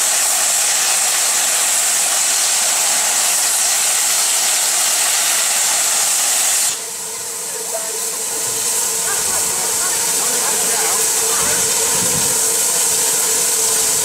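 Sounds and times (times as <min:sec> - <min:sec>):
steam hissing from safety valves: 0:00.0 - 0:14.0.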